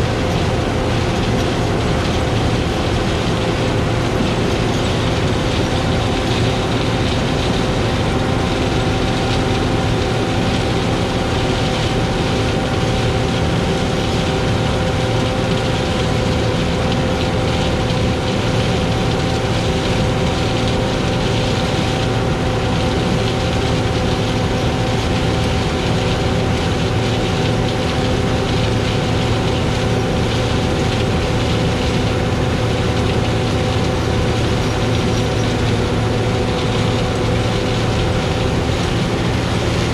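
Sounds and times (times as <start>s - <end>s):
diesel farm machinery running: 0.0s - 39.9s.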